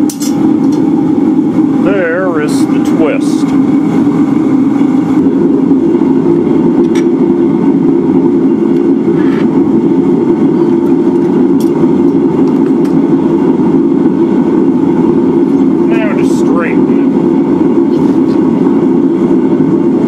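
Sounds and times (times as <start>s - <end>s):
forge equipment droning: 0.0s - 20.0s.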